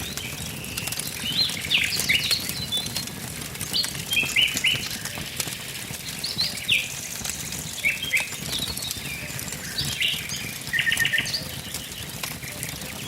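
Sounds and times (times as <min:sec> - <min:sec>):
birds chirping: 0:00.0 - 0:13.0
wood fire crackling and popping: 0:00.0 - 0:13.0.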